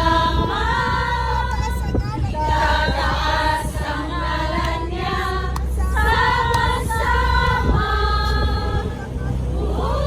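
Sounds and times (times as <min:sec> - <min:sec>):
group singing worship song: 0:00.0 - 0:10.0
steady low rumble: 0:00.0 - 0:10.0.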